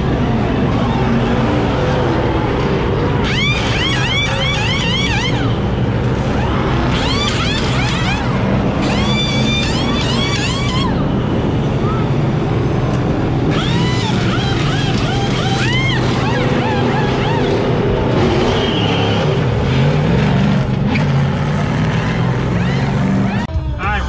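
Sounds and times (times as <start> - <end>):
truck engine revving: 0.0 - 23.7
engine drone: 0.0 - 23.8.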